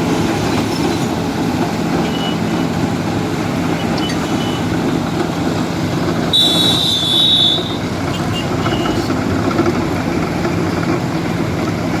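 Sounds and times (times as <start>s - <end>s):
road milling machine grinding: 0.0s - 12.0s.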